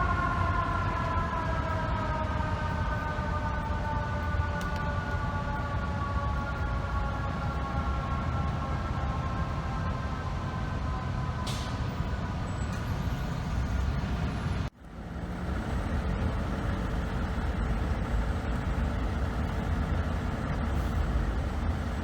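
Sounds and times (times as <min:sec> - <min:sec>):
truck engines and traffic rumble: 0:00.0 - 0:22.0.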